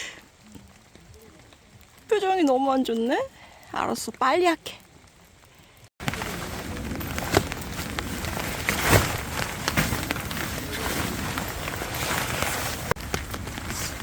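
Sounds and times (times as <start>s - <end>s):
rain pattering on tent fabric: 0.0s - 14.0s.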